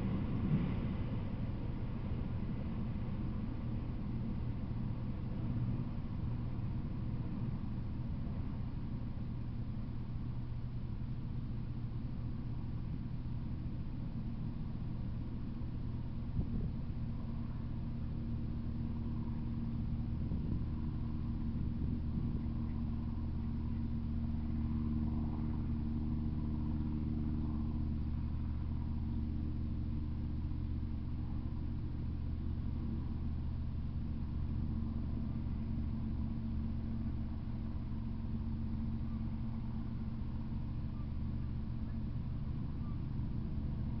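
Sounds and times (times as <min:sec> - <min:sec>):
faint constant tones: 0:00.0 - 0:44.0
low mechanical hum: 0:00.0 - 0:44.0.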